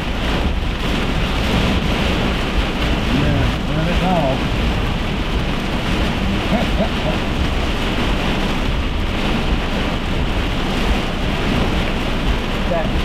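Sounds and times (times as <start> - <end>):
heavy rain and wind on vehicle: 0.0 - 13.0.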